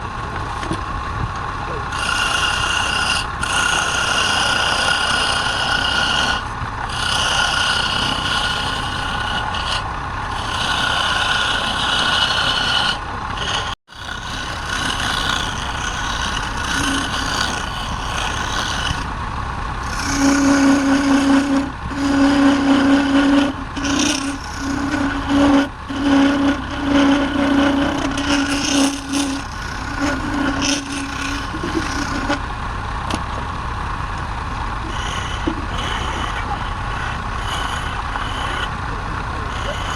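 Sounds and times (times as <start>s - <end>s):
lower hum: 0.0s - 39.9s
wood lathe humming: 1.8s - 39.9s
whining tool cutting wood: 1.9s - 32.5s, 34.6s - 39.9s.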